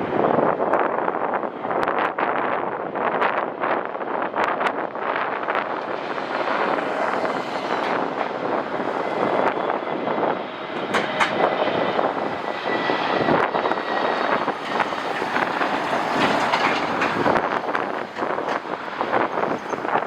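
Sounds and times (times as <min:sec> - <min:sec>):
jet engines of passing aircraft: 0:00.0 - 0:20.0
wind buffeting microphone: 0:00.0 - 0:20.0.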